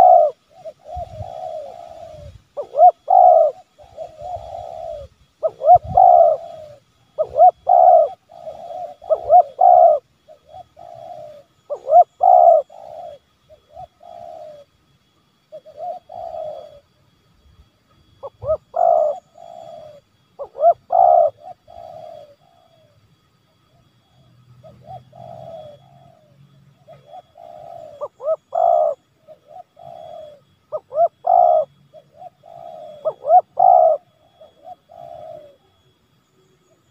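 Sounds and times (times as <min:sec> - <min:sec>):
dove cooing: 0:00.0 - 0:14.8, 0:15.4 - 0:17.2, 0:18.0 - 0:36.9.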